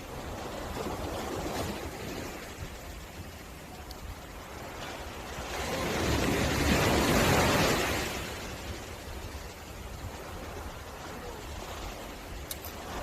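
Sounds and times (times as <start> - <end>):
ocean waves crashing: 0.0 - 13.0
surf hiss: 0.0 - 13.0.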